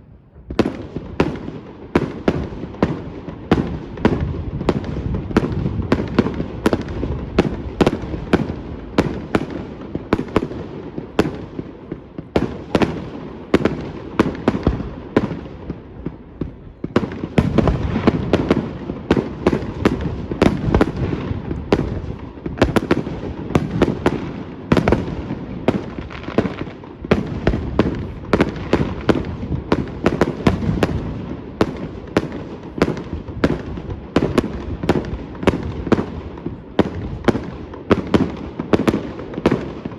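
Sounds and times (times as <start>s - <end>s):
fireworks bangs and cracks: 0.0s - 39.9s.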